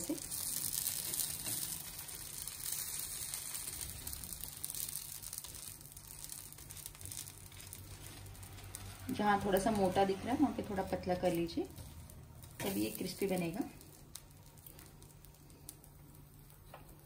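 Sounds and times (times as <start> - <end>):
batter sizzling on hot griddle: 0.0 - 17.0.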